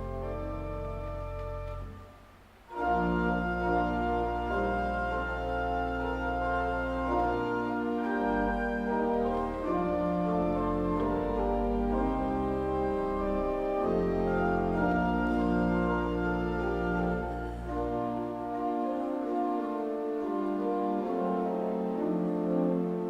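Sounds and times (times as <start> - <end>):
church organ chords: 0.0 - 23.0.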